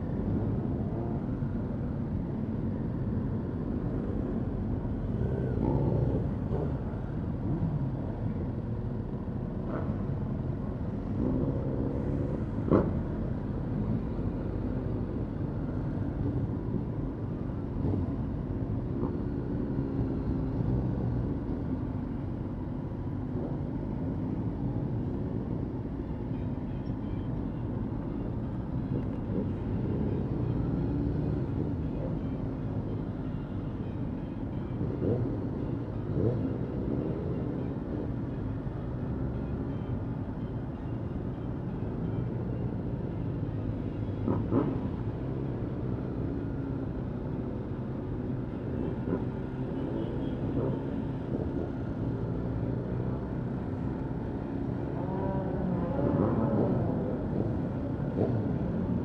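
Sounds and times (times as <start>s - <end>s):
other motorcycles running: 0.0s - 59.0s.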